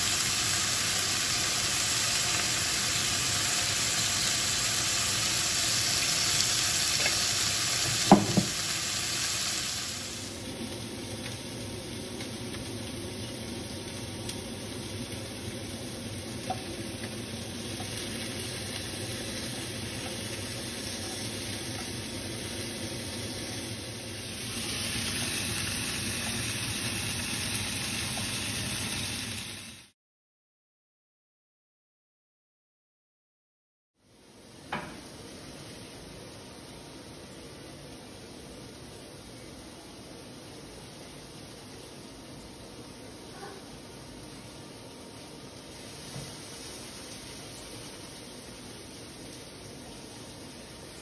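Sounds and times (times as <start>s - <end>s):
chicken sizzling in a frying pan: 0.0s - 30.0s, 34.0s - 51.0s.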